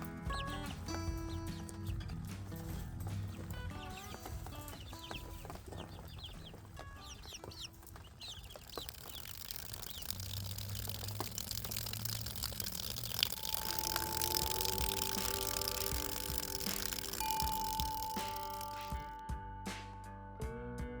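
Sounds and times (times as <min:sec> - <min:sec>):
chicks peeping: 0:00.0 - 0:19.1.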